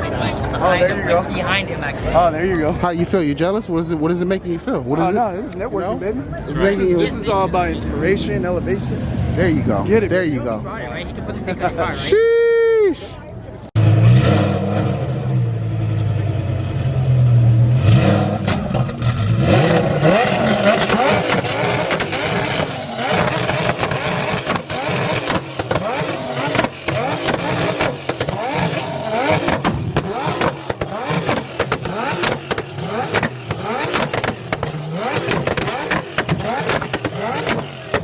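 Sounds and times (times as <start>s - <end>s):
car engines revving: 4.3s - 11.9s, 13.6s - 38.0s.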